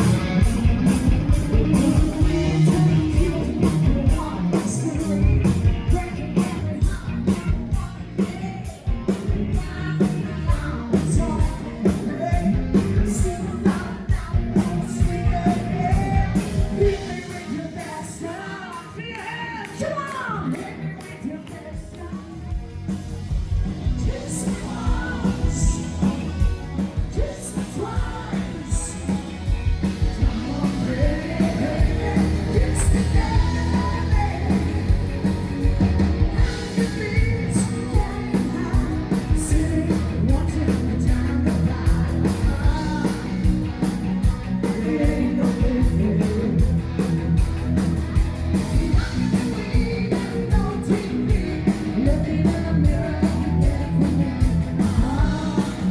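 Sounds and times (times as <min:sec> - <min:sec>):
person singing: 0:00.0 - 0:22.7, 0:24.0 - 0:46.8, 0:48.6 - 0:55.9
live band playing: 0:00.0 - 0:55.9.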